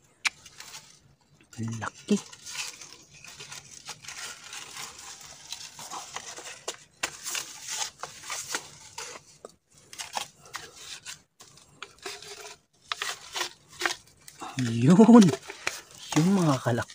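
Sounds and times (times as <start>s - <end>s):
crackles and rustles: 0.0s - 16.9s.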